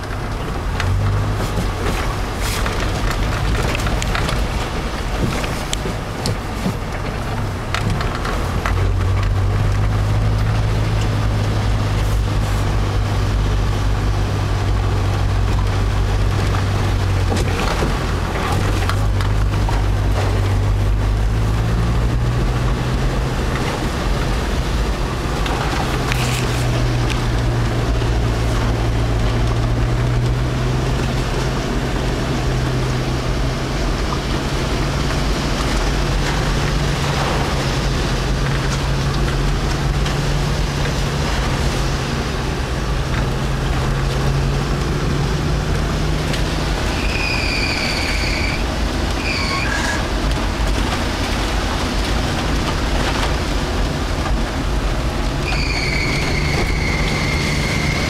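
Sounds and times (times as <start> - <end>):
breaking surf: 0.0 - 58.0
off-road vehicle engine running: 0.0 - 58.0.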